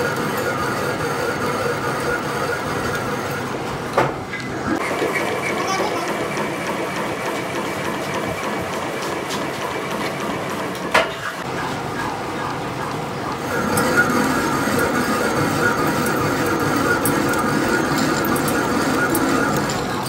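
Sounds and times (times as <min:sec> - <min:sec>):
metal lathe whirring: 0:00.0 - 0:11.0, 0:11.6 - 0:20.0.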